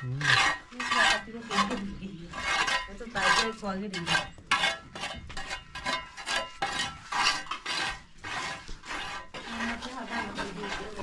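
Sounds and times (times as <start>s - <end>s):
scraping strokes: 0.0s - 11.0s.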